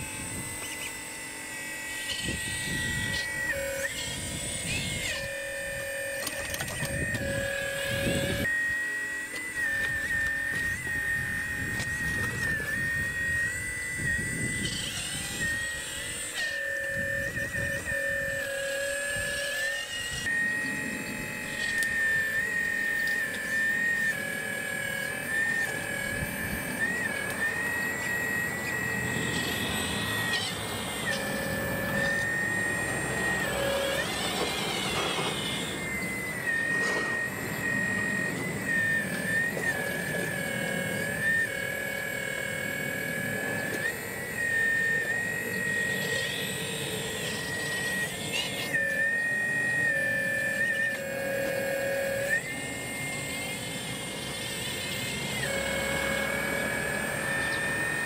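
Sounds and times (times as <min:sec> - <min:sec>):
hydraulic pump whining: 0:00.0 - 0:58.0.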